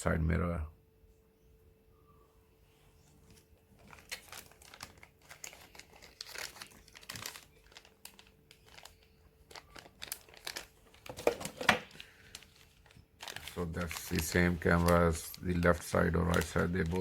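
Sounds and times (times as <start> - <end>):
packaging crinkling and rustling: 3.2 - 17.0.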